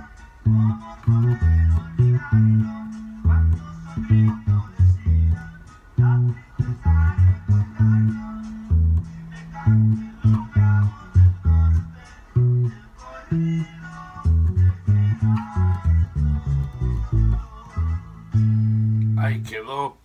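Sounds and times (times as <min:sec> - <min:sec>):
electric bass plucked notes: 0:00.0 - 0:19.5.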